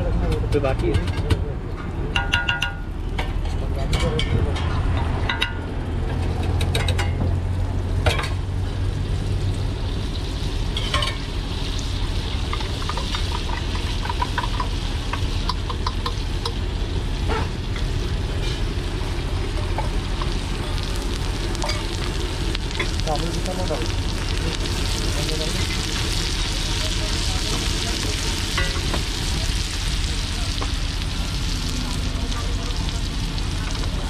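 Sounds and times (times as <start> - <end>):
egg sizzling on a griddle: 5.3 - 34.0.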